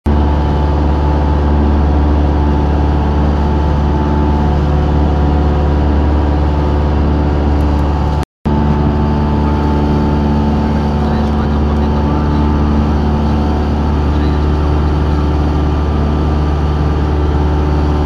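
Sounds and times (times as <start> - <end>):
light aircraft engine droning: 0.1 - 18.0.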